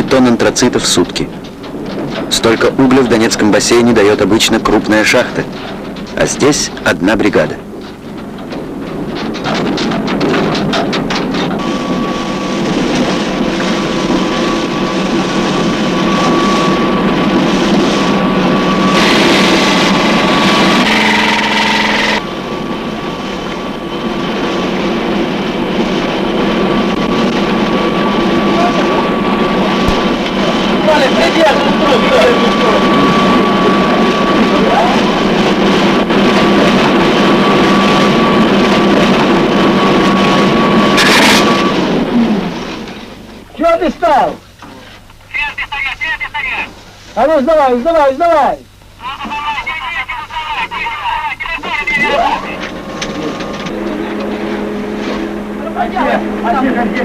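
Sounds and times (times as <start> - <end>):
heavy machinery running: 0.0 - 57.0
high-pitched machine whine: 9.4 - 44.4, 45.5 - 57.0.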